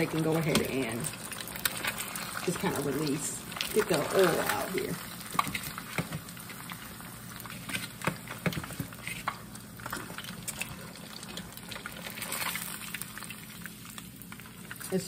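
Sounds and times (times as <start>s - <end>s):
fish frying in hot oil: 0.0s - 15.0s
oil crackles: 0.0s - 15.0s.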